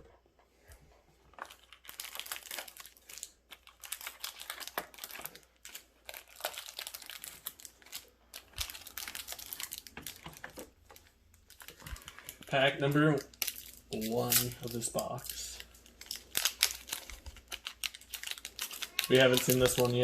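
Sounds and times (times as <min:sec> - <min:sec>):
foil wrappers crinkling: 0:01.3 - 0:20.0.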